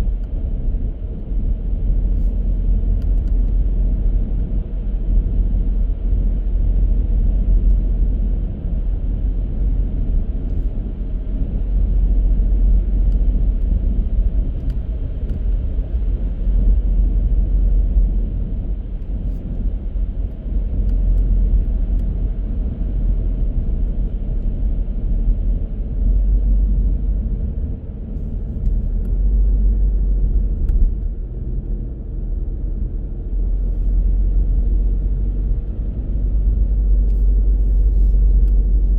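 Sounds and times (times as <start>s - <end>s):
car driving on road: 0.0s - 38.9s.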